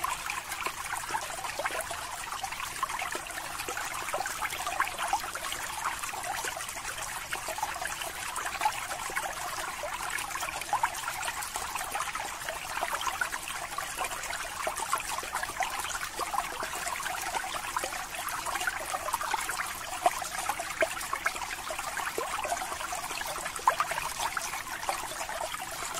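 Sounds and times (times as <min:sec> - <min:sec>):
aquarium water trickling and bubbling: 0:00.0 - 0:25.9.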